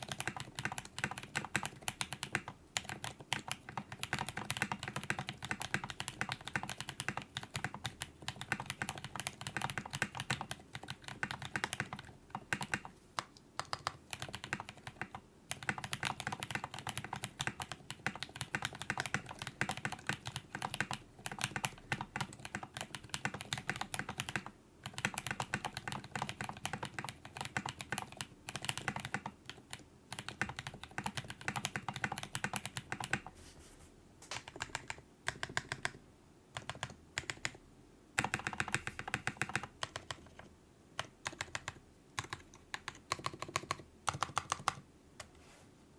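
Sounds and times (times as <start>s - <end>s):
typing on mechanical keyboard: 0.0s - 33.3s, 34.3s - 36.0s, 36.6s - 37.6s, 38.2s - 44.8s.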